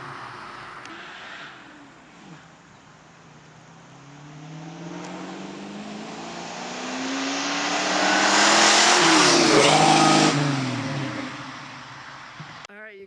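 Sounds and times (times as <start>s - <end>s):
car engine accelerating: 0.0s - 12.7s.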